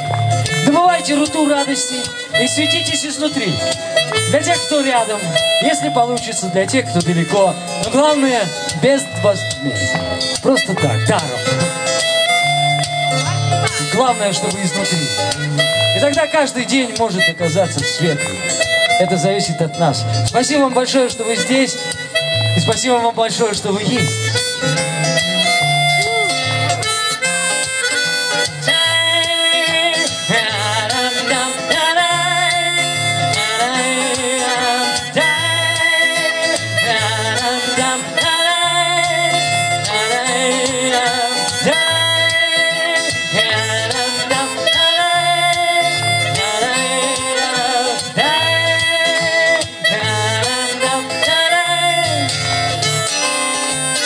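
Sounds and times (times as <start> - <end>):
harmonica melody with bent notes: 0.0 - 54.0
rhythmic accompaniment: 0.0 - 54.0.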